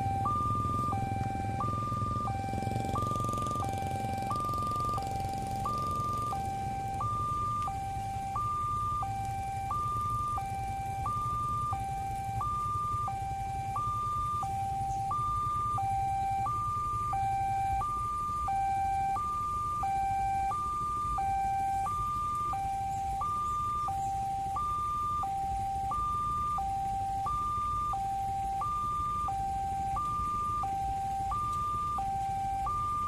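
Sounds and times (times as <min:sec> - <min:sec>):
level crossing two-tone alarm: 0:00.0 - 0:33.0.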